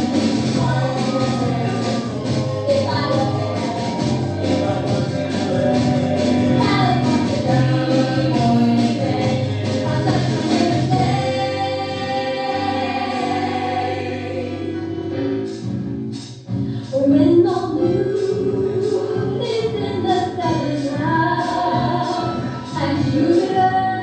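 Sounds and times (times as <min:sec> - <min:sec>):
group singing with accompaniment: 0:00.0 - 0:15.8, 0:17.6 - 0:24.0.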